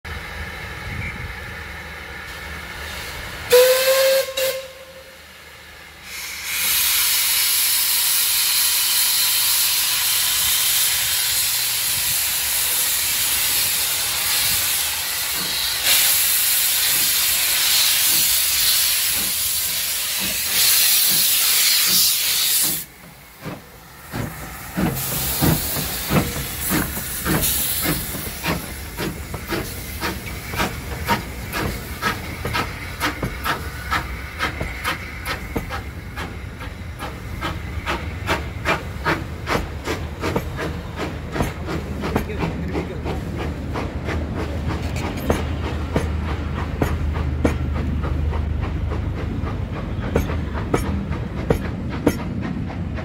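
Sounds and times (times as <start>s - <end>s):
steam locomotive exhaust chuffs: 0.1s - 53.0s
hiss of escaping steam: 0.7s - 52.7s.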